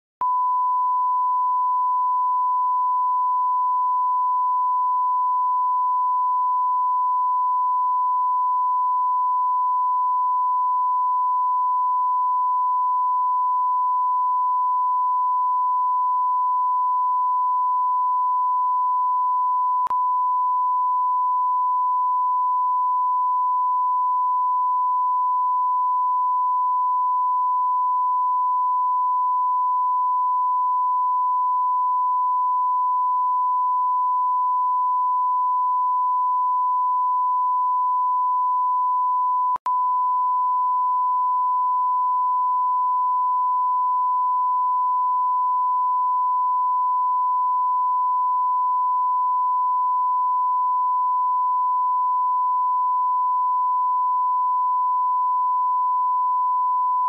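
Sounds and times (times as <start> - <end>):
sine test tone: 0.2 - 57.0.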